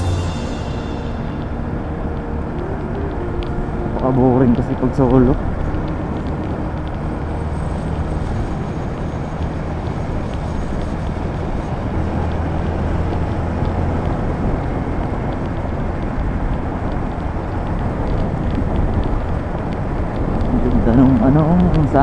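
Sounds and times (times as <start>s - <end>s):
motorcycle engine cruising: 0.0s - 22.0s
wind and road noise: 0.0s - 22.0s.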